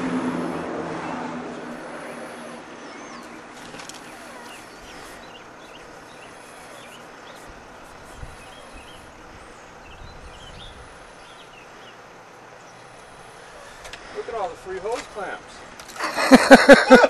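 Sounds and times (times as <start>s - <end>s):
birds chirping: 0.0s - 17.0s
outdoor background hiss: 0.0s - 17.0s.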